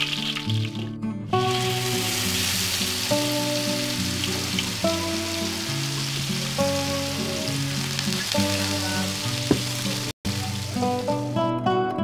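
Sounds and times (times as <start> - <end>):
oil sizzling in a wok: 0.0 - 11.4
background music with held notes: 0.0 - 12.0.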